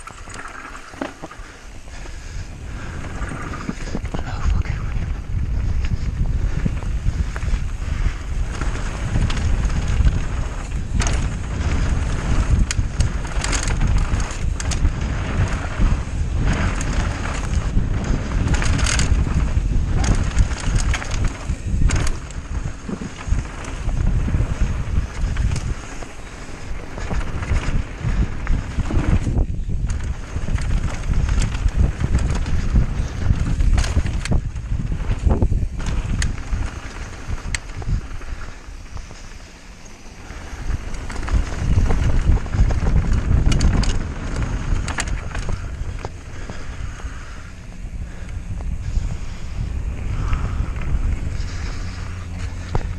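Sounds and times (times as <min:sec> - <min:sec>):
bike clicks and rattles: 0:00.0 - 0:52.9
tyres rumbling on dirt: 0:00.0 - 0:52.9
wind buffeting microphone: 0:00.0 - 0:52.9.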